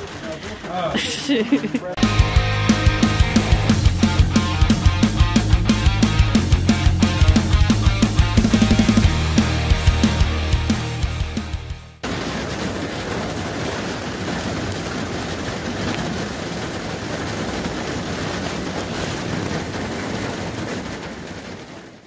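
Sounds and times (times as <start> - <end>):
rain falling steadily: 0.0 - 10.4, 12.0 - 22.0.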